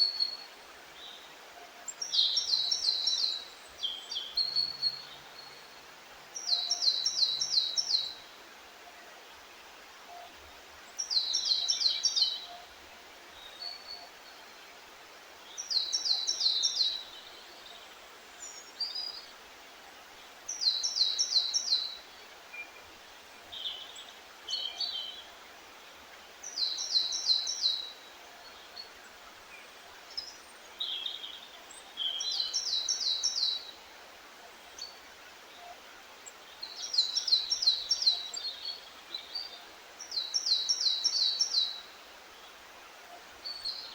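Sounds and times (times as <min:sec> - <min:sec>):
steady background hiss: 0:00.0 - 0:43.9.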